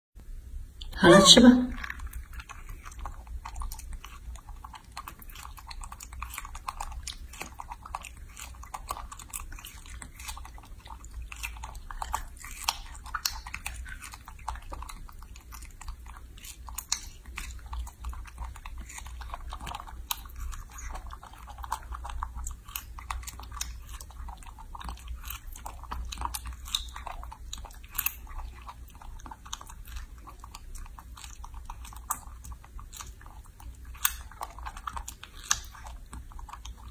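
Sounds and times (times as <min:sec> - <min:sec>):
monkey chewing clicks and smacks: 0:01.8 - 0:36.9.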